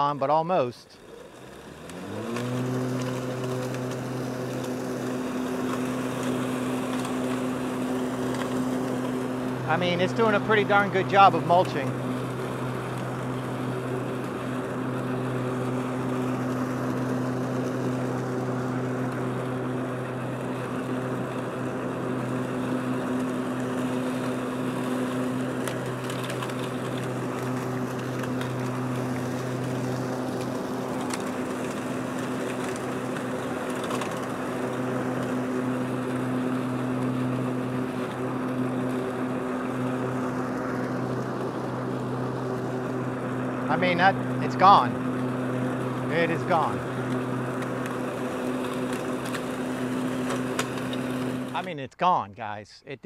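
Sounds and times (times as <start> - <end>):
lawn mower running: 0.0 - 52.2.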